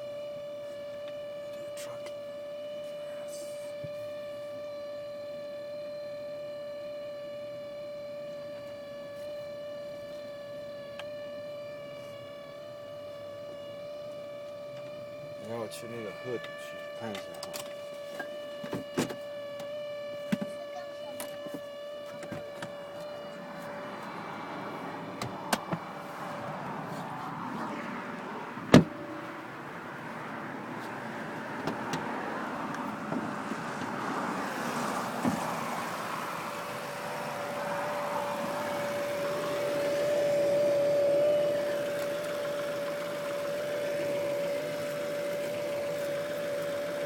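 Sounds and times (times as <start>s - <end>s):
blower fan whining: 0.0s - 47.0s.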